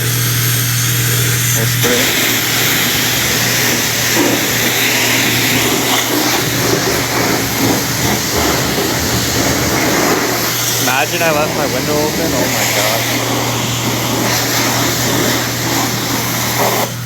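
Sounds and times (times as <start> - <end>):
pressure washer water jet hissing: 0.0 - 17.0.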